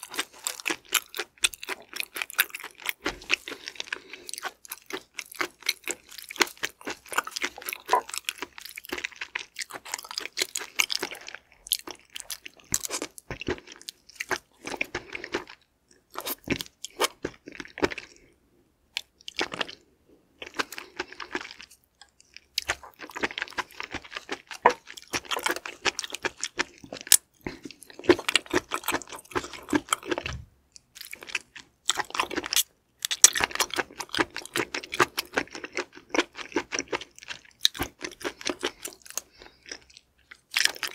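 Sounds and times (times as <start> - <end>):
wet chewing and slurping: 0.0 - 18.3, 19.0 - 40.9.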